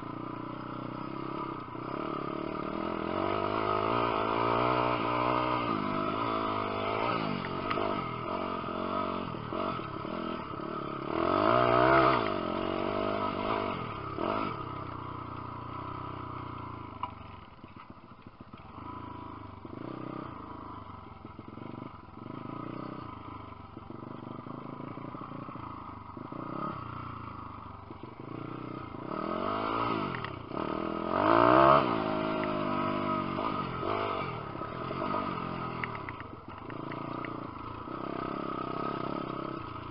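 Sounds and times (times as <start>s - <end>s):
motorbike engine revving: 0.0s - 16.9s, 18.5s - 39.9s.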